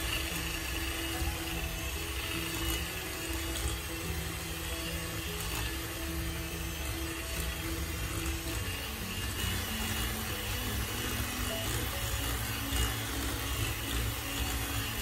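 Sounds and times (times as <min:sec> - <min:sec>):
background music: 0:00.0 - 0:15.0
electric mixer motor running: 0:00.0 - 0:15.0.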